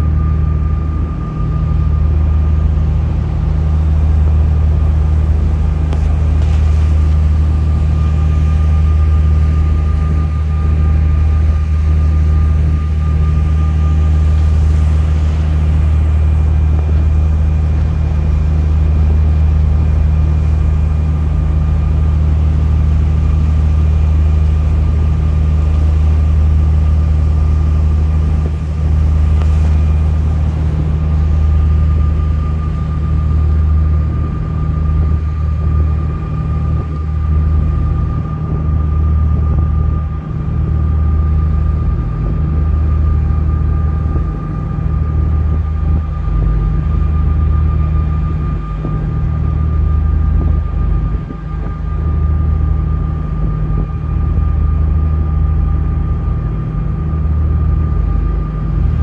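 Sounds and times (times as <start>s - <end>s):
faint high whine: 0.0s - 59.0s
low engine drone: 0.0s - 59.0s.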